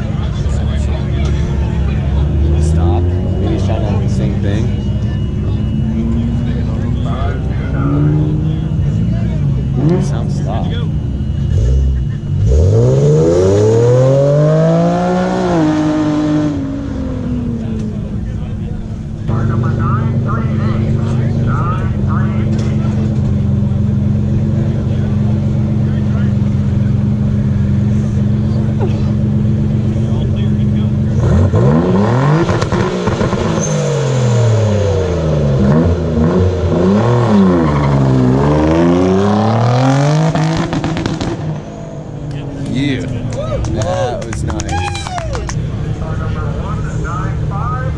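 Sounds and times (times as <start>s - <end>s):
sports car engine revving: 0.0s - 47.9s.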